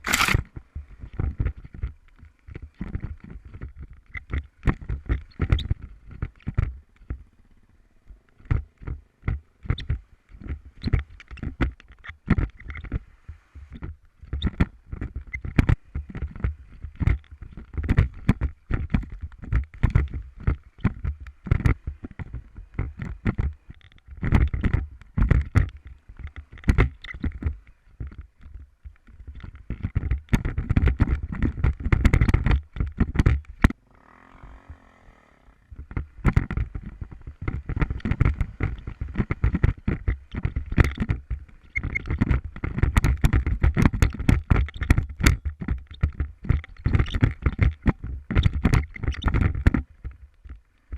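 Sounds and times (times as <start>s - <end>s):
microphone knocks and thumps: 0.0s - 7.3s, 8.1s - 33.8s, 35.7s - 50.9s
faint motorcycle engine: 0.0s - 50.9s.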